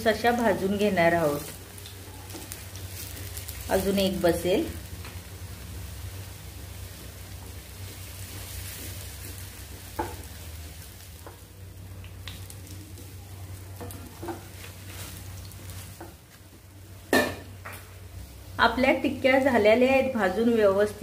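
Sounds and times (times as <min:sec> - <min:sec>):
low steady hum: 0:00.0 - 0:21.0
patties sizzling in oil: 0:00.0 - 0:21.0.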